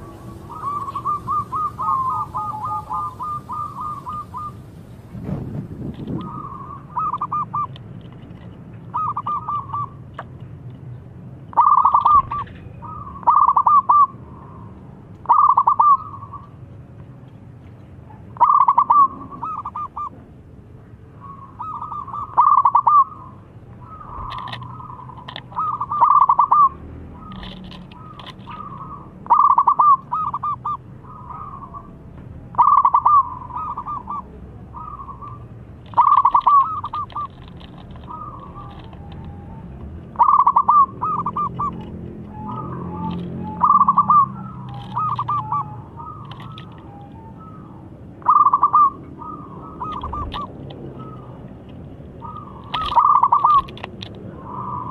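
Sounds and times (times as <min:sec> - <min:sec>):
dove cooing: 0:00.0 - 0:04.7, 0:06.0 - 0:07.8, 0:08.9 - 0:10.0, 0:11.5 - 0:14.6, 0:15.2 - 0:16.5, 0:18.4 - 0:20.2, 0:21.2 - 0:54.9.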